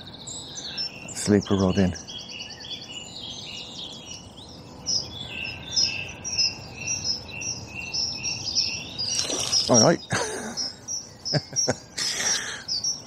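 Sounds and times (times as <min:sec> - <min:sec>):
bird high chirping phrase: 0:00.0 - 0:13.0
songbirds singing: 0:00.0 - 0:13.0.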